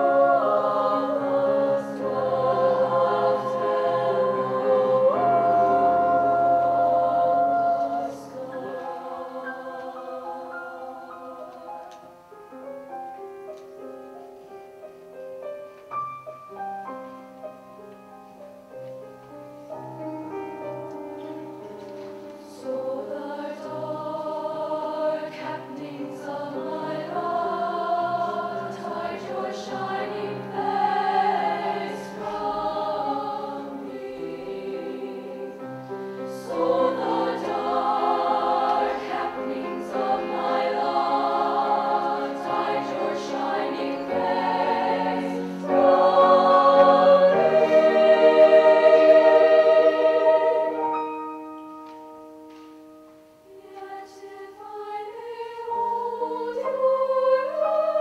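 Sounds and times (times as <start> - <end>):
women's choir singing: 0.0 - 12.2, 21.2 - 51.2, 53.5 - 58.0
piano accompaniment: 0.0 - 58.0.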